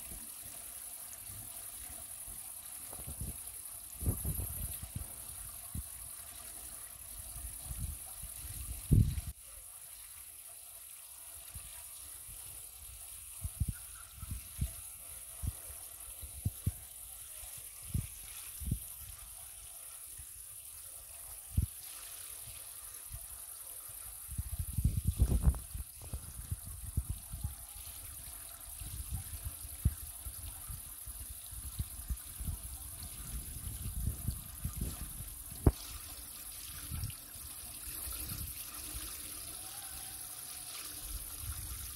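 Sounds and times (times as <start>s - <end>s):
water trickling in a pond: 0.0s - 41.9s.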